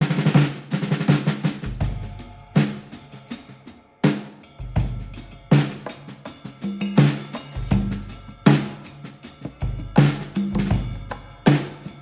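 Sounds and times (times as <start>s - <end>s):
drum kit beat: 0.0s - 12.0s.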